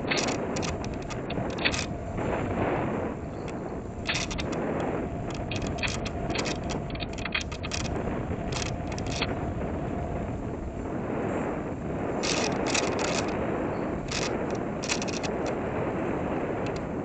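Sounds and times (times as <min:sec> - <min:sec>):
motor and propeller noise: 0:00.0 - 0:17.0.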